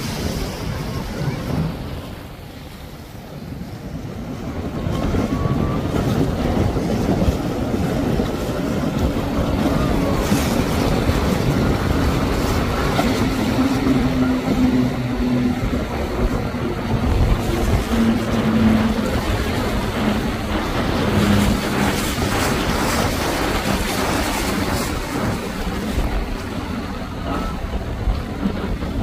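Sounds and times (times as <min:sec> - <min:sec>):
outboard motors droning: 0:00.0 - 0:29.0
water rushing and splashing: 0:00.0 - 0:29.0.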